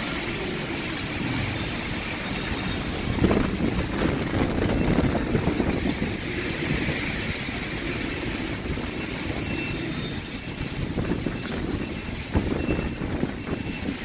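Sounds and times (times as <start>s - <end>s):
wind blowing on microphone: 0.0s - 14.0s.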